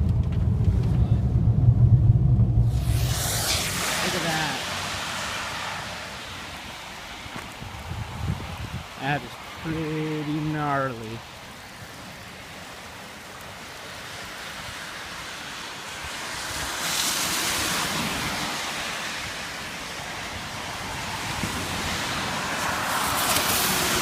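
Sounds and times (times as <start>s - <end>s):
flooded creek rushing: 3.8s - 24.0s.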